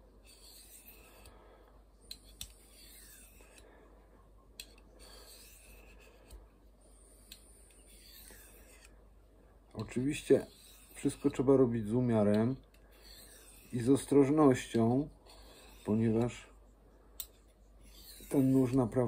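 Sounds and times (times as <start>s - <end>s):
blade scraping on hone: 0.0s - 3.8s, 4.6s - 9.0s, 9.7s - 16.6s, 17.2s - 19.0s.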